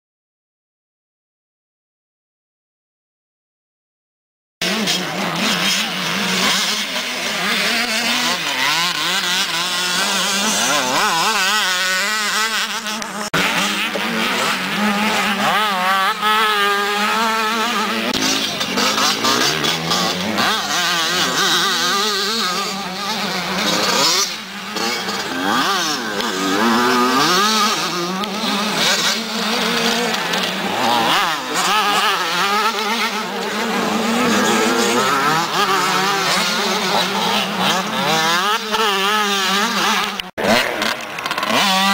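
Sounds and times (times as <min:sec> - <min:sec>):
motocross engines revving: 0:04.6 - 0:41.9.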